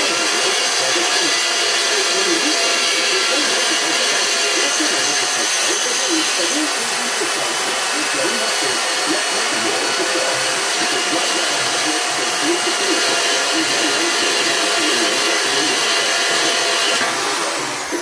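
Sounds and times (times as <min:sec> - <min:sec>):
electric drill boring through metal: 0:00.0 - 0:18.0.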